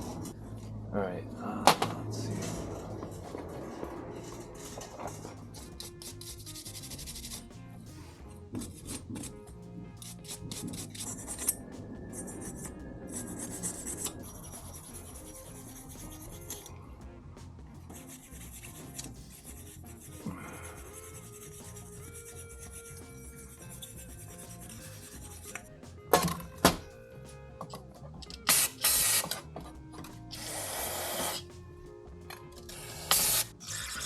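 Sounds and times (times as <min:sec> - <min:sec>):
rubbing and scraping of metal parts: 0:01.7 - 0:16.7, 0:17.8 - 0:26.9, 0:27.6 - 0:31.6, 0:32.3 - 0:34.0.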